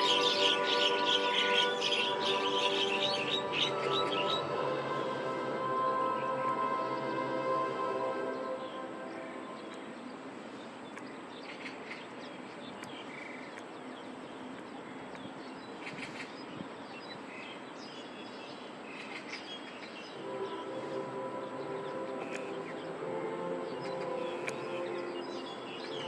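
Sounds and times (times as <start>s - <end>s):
small birds chirping: 0.0s - 4.5s, 8.6s - 26.0s
background hiss: 0.0s - 26.0s.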